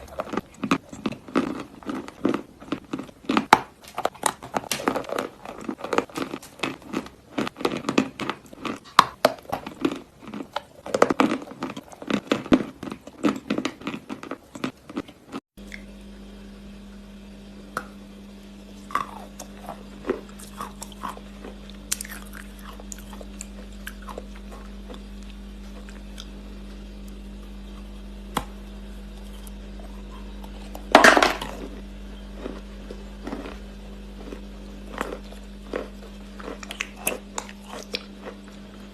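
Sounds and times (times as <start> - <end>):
crunching and chewing clay: 0.0 - 15.9, 18.8 - 38.9
electrical hum: 0.0 - 38.9.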